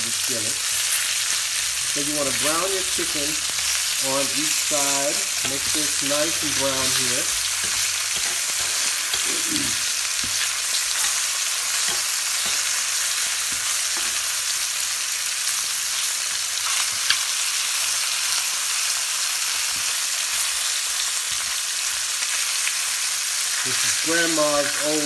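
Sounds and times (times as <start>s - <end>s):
chicken sizzling in a skillet: 0.0s - 25.0s.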